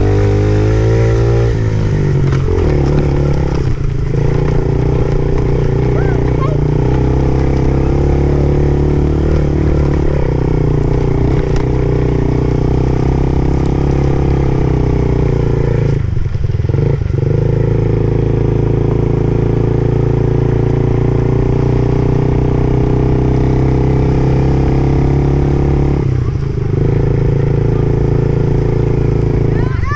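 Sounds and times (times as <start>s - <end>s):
dirt bike engine running: 0.0s - 29.9s.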